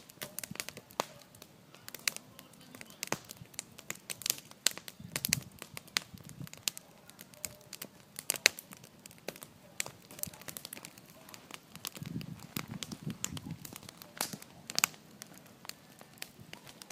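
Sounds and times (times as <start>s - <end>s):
bonfire crackling and popping: 0.0s - 16.9s.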